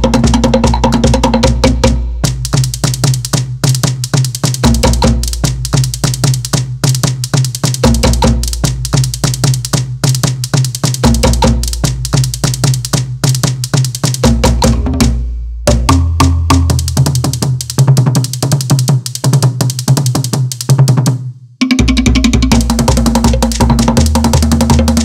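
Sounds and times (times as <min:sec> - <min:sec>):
deep drum: 0:00.0 - 0:18.6, 0:20.8 - 0:25.0
slit drums struck rapidly: 0:00.0 - 0:25.0.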